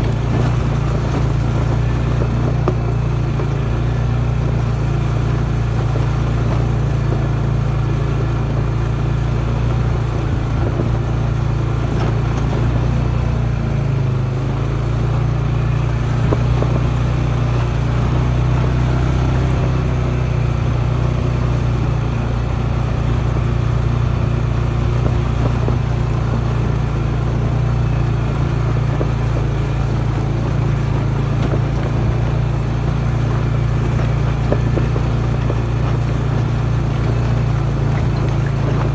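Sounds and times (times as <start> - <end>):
vehicle engine at low revs: 0.0 - 38.9.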